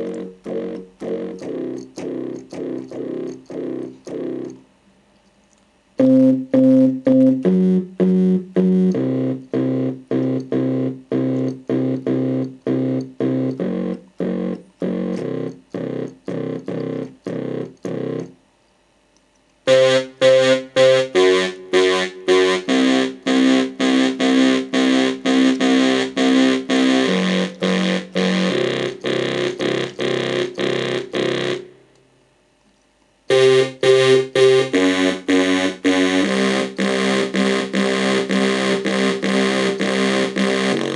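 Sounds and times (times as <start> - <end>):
staccato synth bass line: 0.0 - 4.6, 6.0 - 18.4, 19.7 - 31.7, 33.3 - 40.9.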